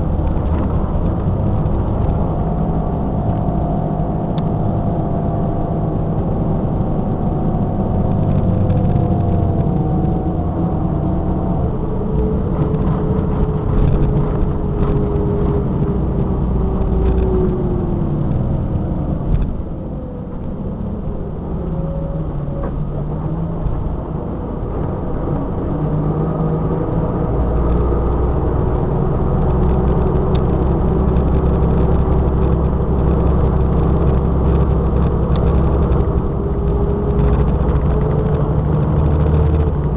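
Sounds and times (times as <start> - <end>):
bus diesel engine under load: 0.0 - 39.9.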